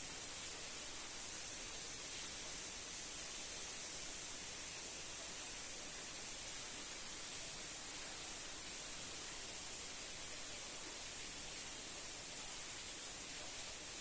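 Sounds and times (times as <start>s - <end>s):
high-pitched outdoor hiss: 0.0s - 14.0s.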